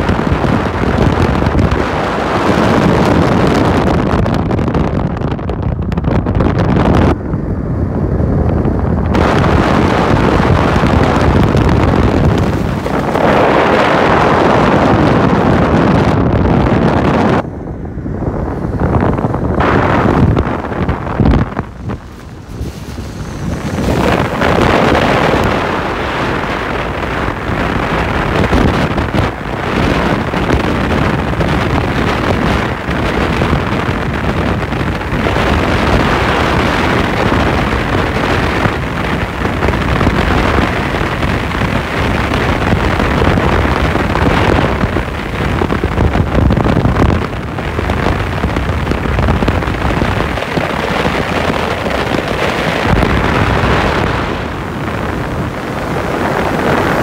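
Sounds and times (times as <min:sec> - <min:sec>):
car engine and tyre noise: 0:00.0 - 0:57.0
wind buffeting microphone: 0:00.0 - 0:57.0.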